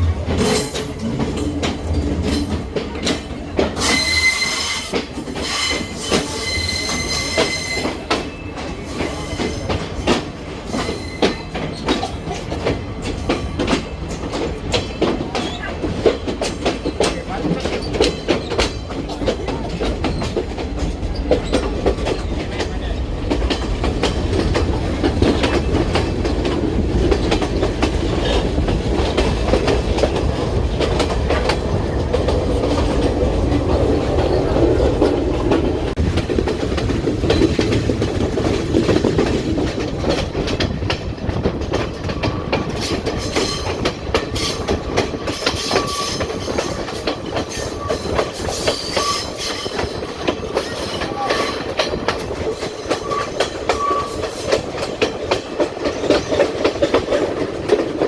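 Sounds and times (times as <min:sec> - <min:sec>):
train rumbling: 0:00.0 - 0:58.0
wheels clacking over rail joints: 0:00.0 - 0:58.0.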